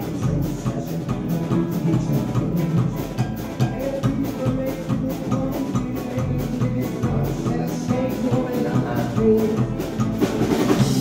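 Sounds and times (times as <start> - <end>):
drum kit with cymbals: 0.0 - 11.0
live band playing: 0.0 - 11.0.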